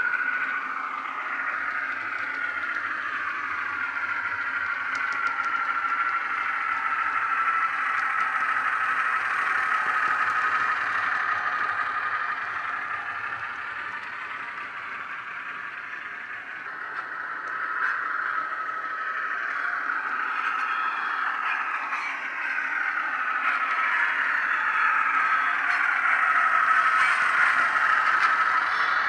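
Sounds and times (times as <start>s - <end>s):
diesel engine sound through small speaker: 0.0s - 29.0s.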